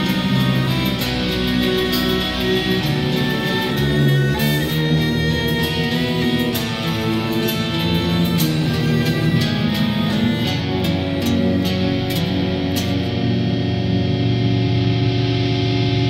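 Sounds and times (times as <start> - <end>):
progressive metal guitars: 0.0 - 16.0.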